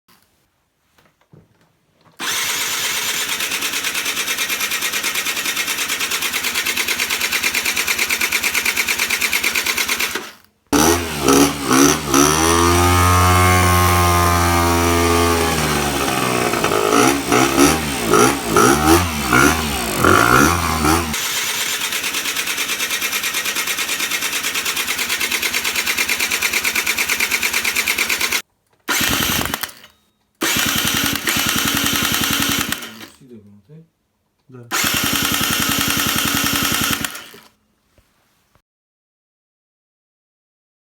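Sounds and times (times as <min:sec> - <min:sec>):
scooter starter motor whirring: 0:02.2 - 0:33.2, 0:34.7 - 0:37.5.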